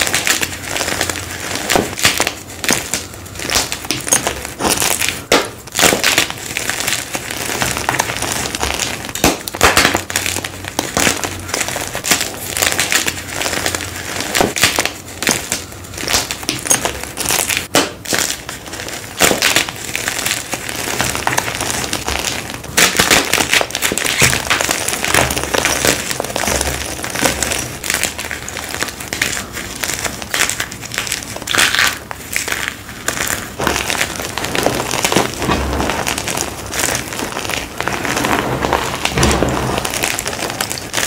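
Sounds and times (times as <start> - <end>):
hands crushing chalk: 0.0 - 41.0.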